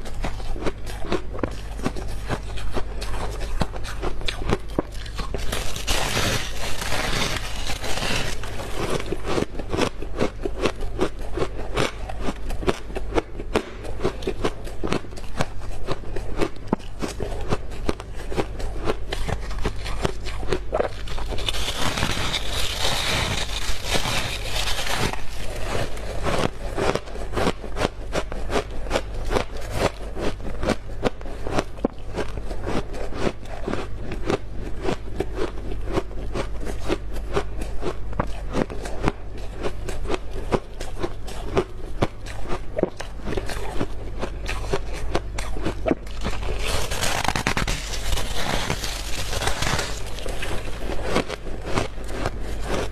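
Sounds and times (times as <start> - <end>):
crunching and chewing frost: 0.0 - 52.9.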